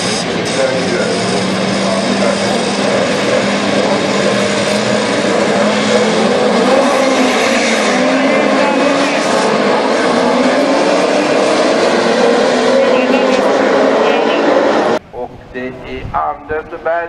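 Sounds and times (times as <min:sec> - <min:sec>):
racing car engines running slowly: 0:00.0 - 0:15.3.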